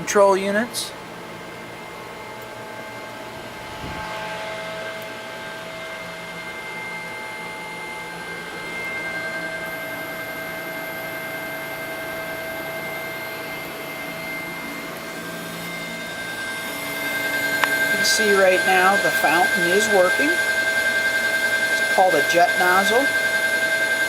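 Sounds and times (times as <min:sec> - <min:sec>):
high whining tones: 0:00.8 - 0:24.0
machine motor hum and hiss: 0:01.0 - 0:24.0.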